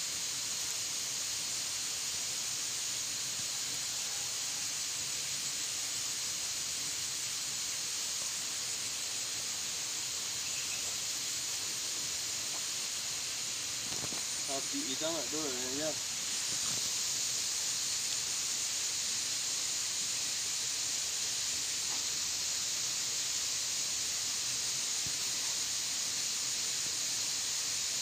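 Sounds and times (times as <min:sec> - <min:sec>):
insect chorus hiss: 0:00.0 - 0:28.0.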